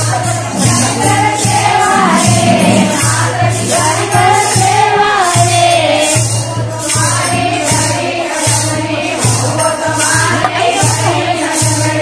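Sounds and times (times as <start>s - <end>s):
jingling hand percussion: 0.0s - 12.0s
women singing together: 0.0s - 12.0s.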